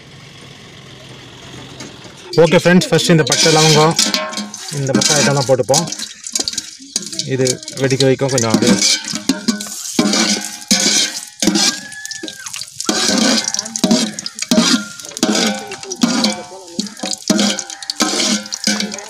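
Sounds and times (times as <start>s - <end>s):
ladle scraping metal pot: 2.3s - 19.0s
spices sizzling in hot oil: 2.3s - 19.0s.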